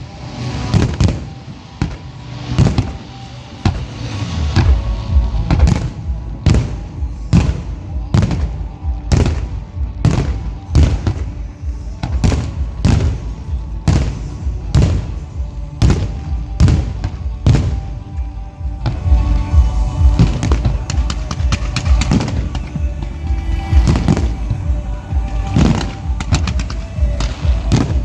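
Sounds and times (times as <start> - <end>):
music: 0.0 - 28.0.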